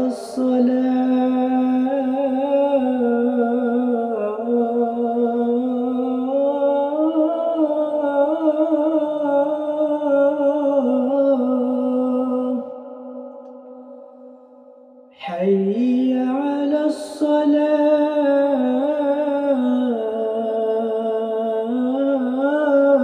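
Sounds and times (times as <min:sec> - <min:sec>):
man singing call to prayer: 0:00.0 - 0:13.8, 0:15.1 - 0:23.0.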